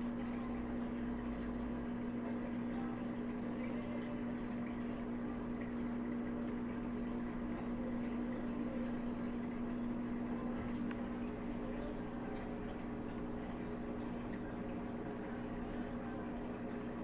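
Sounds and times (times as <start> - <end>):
filter motor hum: 0.0 - 17.0
water bubbling and trickling: 0.0 - 17.0.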